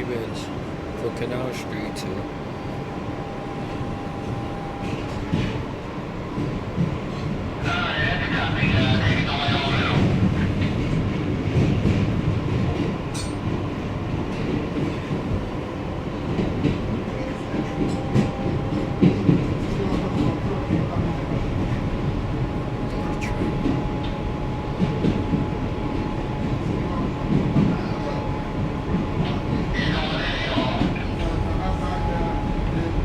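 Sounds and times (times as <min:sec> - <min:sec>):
subway wheels rumbling on rail: 0:00.0 - 0:33.0
rail joint clicks: 0:00.6 - 0:33.0.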